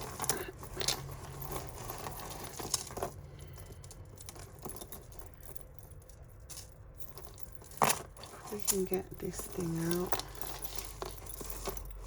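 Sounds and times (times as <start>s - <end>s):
metal chains clinking: 0.0s - 12.0s.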